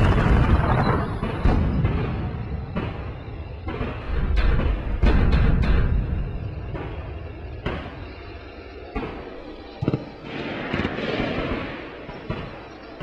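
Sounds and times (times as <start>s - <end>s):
distant artillery blasts and gunfire: 0.0s - 13.0s.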